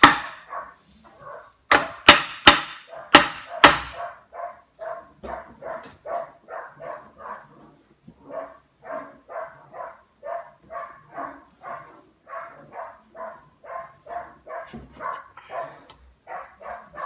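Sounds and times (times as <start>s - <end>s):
dog barking: 0.2s - 1.6s, 2.8s - 17.0s.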